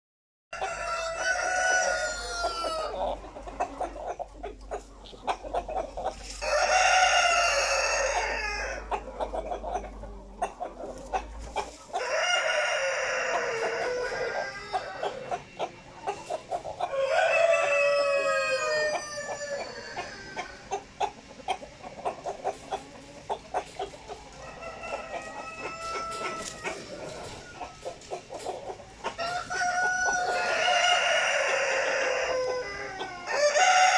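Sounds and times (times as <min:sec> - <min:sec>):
roosters crowing: 0:00.5 - 0:04.2, 0:05.6 - 0:20.8, 0:22.1 - 0:33.9
chicken clucks: 0:00.5 - 0:33.9.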